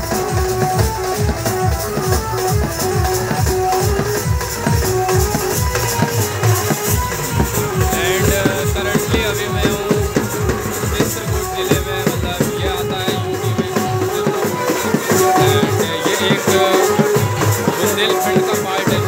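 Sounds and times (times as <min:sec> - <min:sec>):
frame drums beaten fast: 0:00.0 - 0:19.0
held melody line: 0:00.0 - 0:19.0
jingling hand cymbals: 0:00.0 - 0:19.0.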